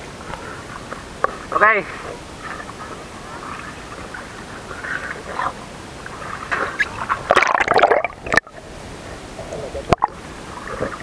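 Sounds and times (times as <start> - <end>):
water splashing over camera: 0.0 - 8.7, 9.3 - 11.0
water lapping: 0.0 - 11.0.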